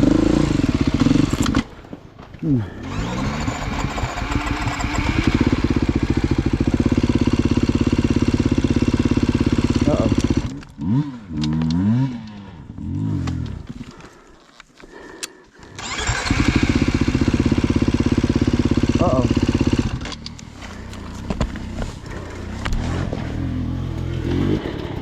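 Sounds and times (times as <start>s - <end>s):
motorcycle engine chugging: 0.0s - 1.8s, 2.4s - 25.0s.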